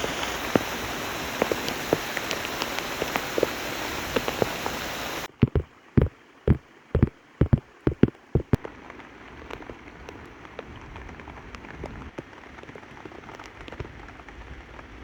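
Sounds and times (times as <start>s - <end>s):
rain falling: 0.0s - 6.1s, 7.0s - 15.0s.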